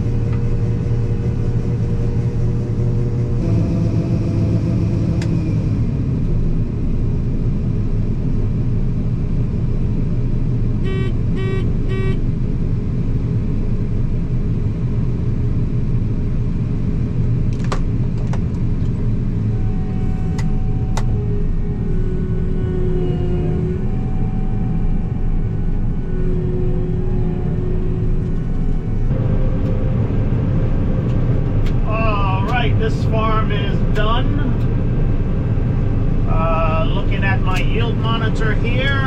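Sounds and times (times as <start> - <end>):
combine harvester engine hum: 0.0 - 39.0.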